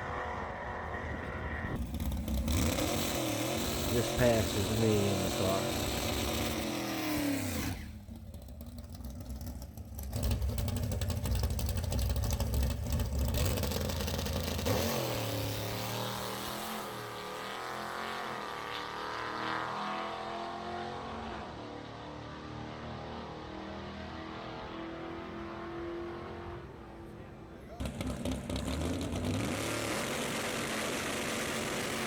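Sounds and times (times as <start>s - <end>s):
drag car engine revving hard: 0.0s - 8.2s, 9.4s - 26.9s, 27.8s - 32.0s.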